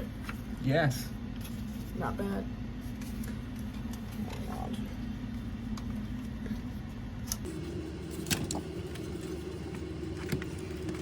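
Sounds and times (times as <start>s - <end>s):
low hum: 1.2s - 11.0s.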